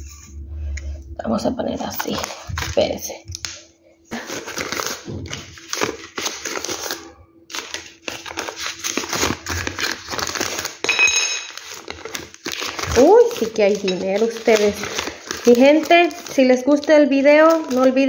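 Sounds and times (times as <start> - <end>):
banknotes rustling and crinkling: 2.0 - 18.0.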